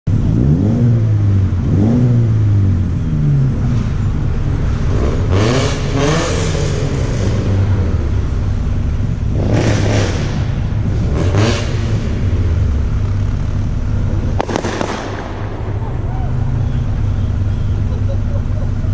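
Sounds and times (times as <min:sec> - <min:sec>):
car engine revving: 0:00.1 - 0:18.9.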